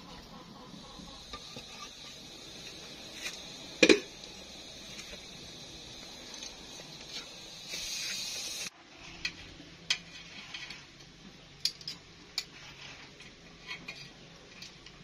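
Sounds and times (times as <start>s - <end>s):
boiling water hissing: 0.0s - 11.4s, 12.4s - 15.0s.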